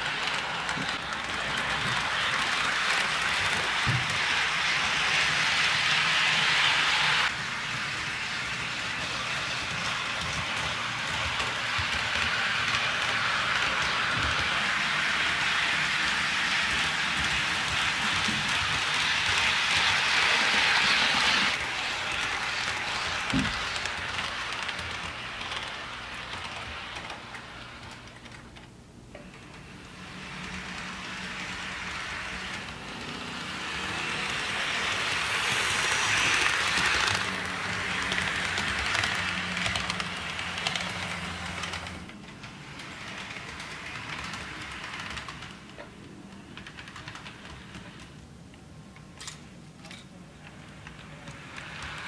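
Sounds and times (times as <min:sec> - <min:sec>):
model train wheels rattling on rails: 0:00.0 - 0:52.0.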